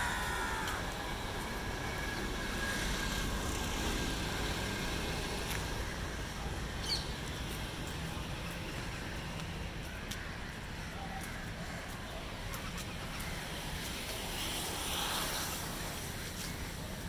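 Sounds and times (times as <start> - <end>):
city traffic hum: 0.0 - 17.0.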